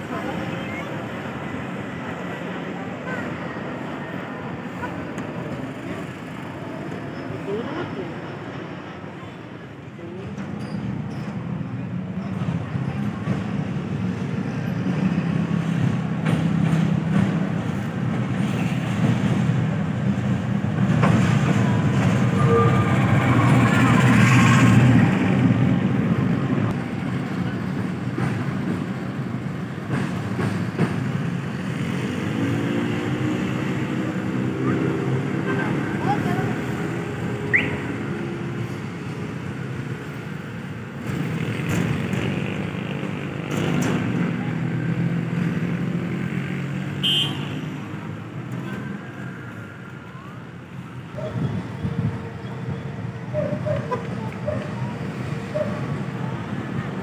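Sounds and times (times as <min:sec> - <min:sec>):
locomotive rumble: 0:00.0 - 0:46.9, 0:47.7 - 0:57.0
road traffic: 0:00.0 - 0:57.0.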